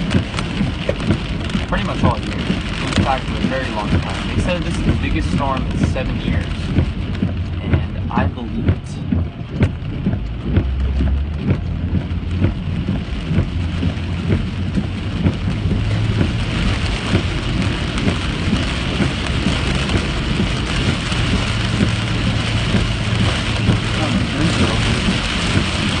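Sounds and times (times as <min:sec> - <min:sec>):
engine and tyre hum: 0:00.0 - 0:26.0
heavy rain on car roof: 0:00.0 - 0:26.0.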